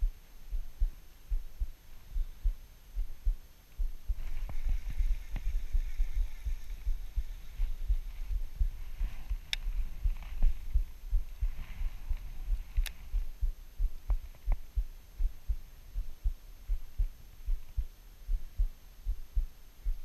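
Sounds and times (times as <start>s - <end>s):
faint ticks: 0.0s - 20.0s
low thumping rumble on microphone: 0.0s - 20.0s.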